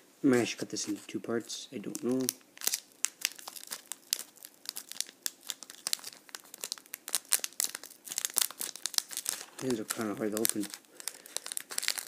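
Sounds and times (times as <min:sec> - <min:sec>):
foil pack crinkling: 0:01.8 - 0:12.0.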